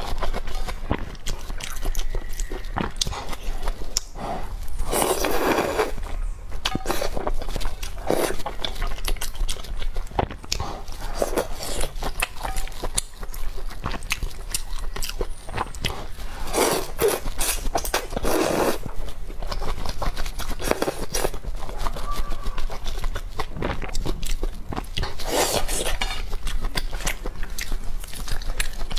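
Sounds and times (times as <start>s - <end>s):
noodles slurping: 0.0s - 28.9s
wet chewing and mouth clicks: 0.0s - 28.9s.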